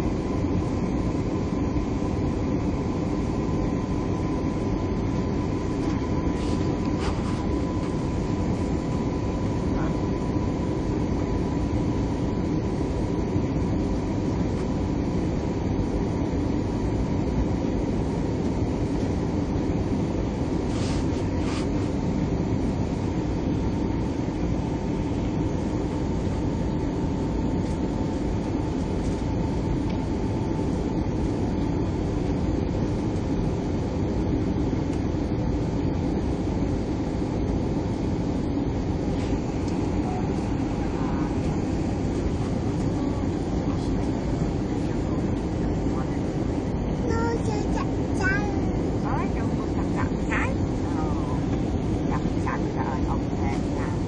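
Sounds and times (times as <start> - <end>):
airliner engine rumble: 0.0 - 54.0.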